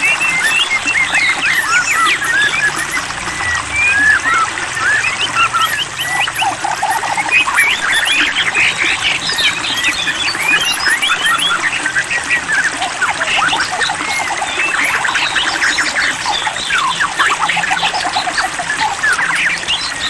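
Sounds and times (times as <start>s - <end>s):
bird song whistles and chirps: 0.0s - 20.0s.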